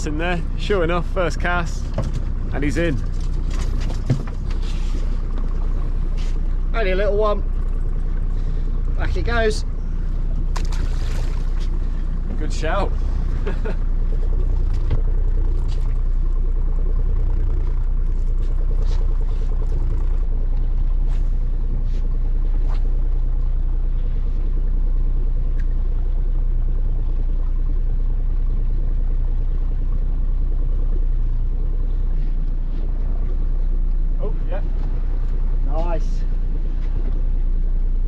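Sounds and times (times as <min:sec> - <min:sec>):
boat motor rumbling: 0:00.0 - 0:38.0.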